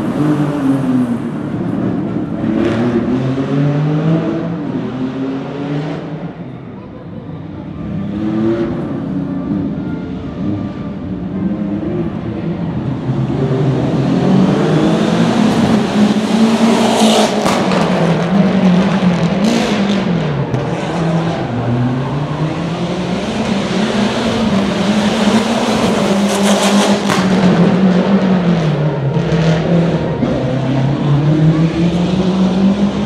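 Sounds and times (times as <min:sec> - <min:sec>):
rally car engine revving: 0:00.0 - 0:06.4, 0:07.8 - 0:09.8, 0:10.4 - 0:33.0.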